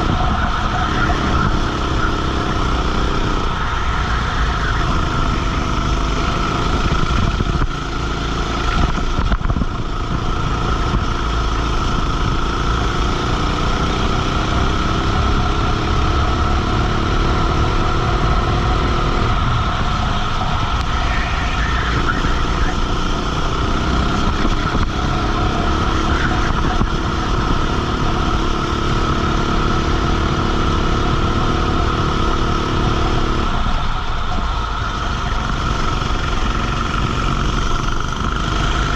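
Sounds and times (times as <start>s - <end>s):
kart engine revving: 0.0s - 38.9s
wind and rolling noise: 0.0s - 38.9s.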